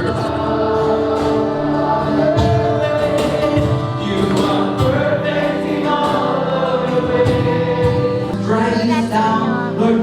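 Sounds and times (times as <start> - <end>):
voices singing worship song: 0.0 - 10.0.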